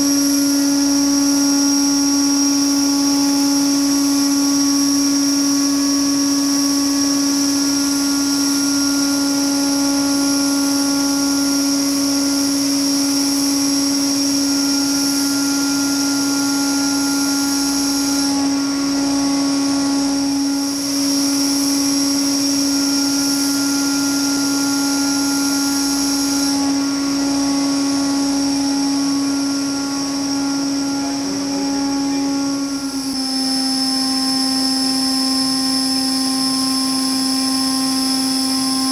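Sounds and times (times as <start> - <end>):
machine hum and high whine: 0.0 - 38.9.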